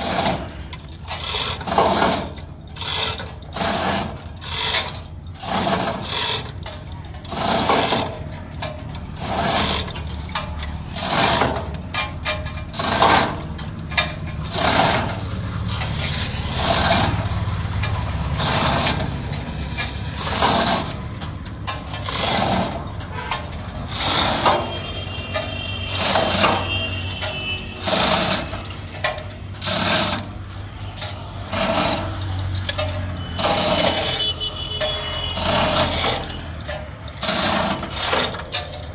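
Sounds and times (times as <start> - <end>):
chain hoist rattling and clanking: 0.0 - 38.9.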